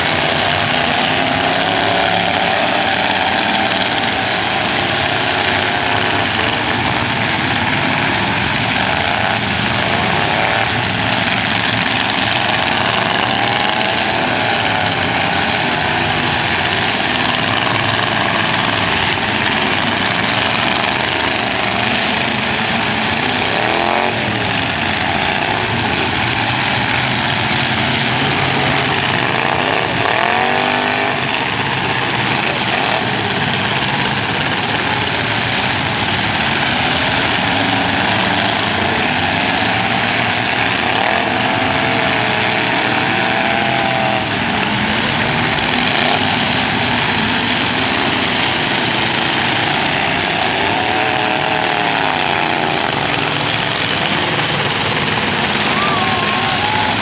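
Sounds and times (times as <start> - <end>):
din of other engines: 0.0 - 57.0
unmuffled car engine revving: 0.0 - 57.0.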